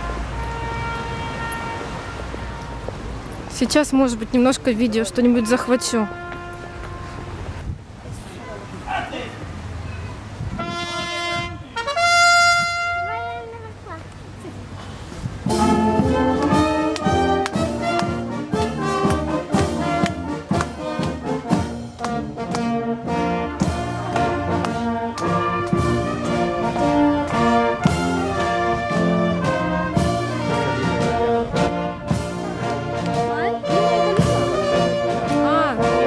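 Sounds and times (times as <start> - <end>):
marching brass band playing: 0.0 - 3.8, 4.8 - 7.7, 10.5 - 13.7, 15.4 - 36.0.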